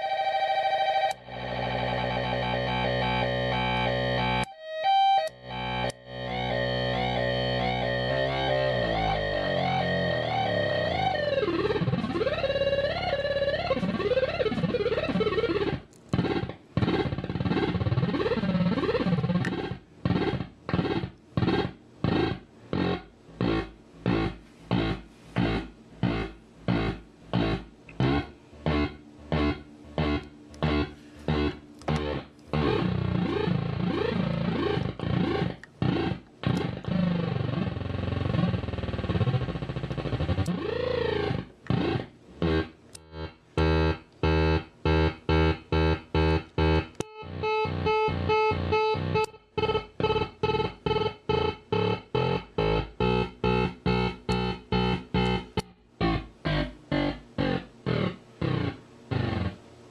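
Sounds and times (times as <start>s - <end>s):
swooping electronic tone: 0.0s - 59.6s.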